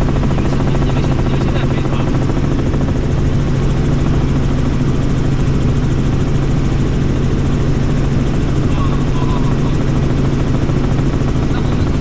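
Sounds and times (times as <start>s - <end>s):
helicopter engine and rotors droning: 0.0s - 12.0s.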